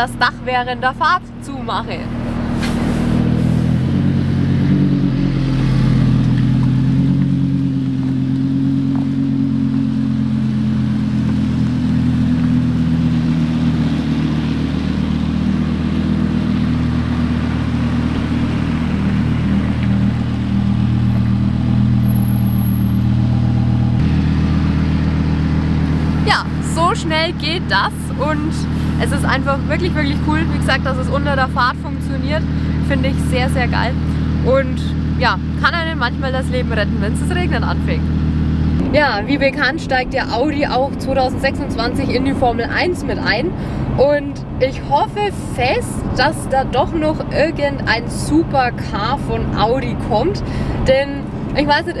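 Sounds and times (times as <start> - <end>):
car engine drone: 0.0 - 52.0
road noise: 0.0 - 52.0.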